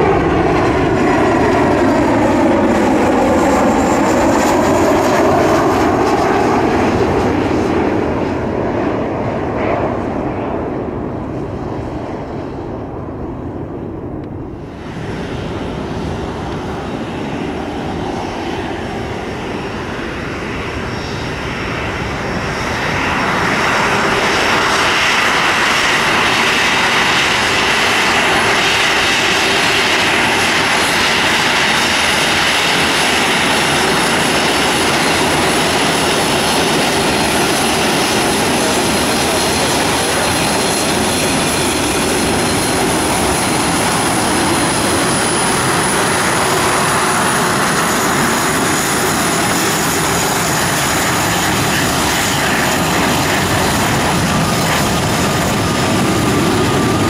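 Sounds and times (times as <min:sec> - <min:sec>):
jet engines rushing and whining: 0:00.0 - 0:57.0.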